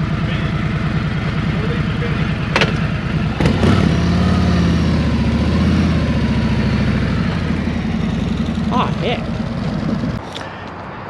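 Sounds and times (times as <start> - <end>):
motorcycle engine loping idle: 0.0 - 10.5.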